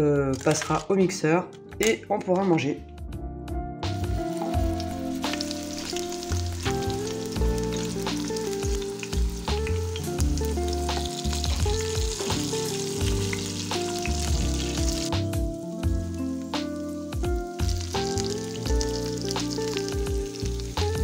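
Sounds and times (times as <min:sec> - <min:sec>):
background music: 0:00.0 - 0:21.0
vegetables sizzling in oil: 0:03.9 - 0:21.0.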